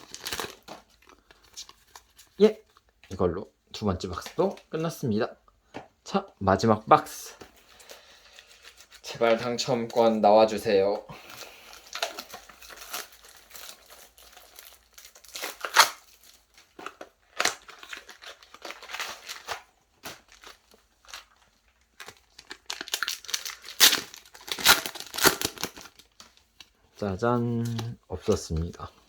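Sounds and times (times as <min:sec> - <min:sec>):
foil wrappers crinkling and tearing: 0:00.0 - 0:02.9, 0:07.6 - 0:28.8.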